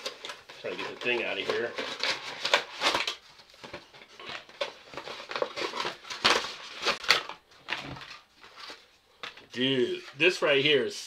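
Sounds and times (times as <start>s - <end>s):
packing material rustling: 0.0s - 10.4s.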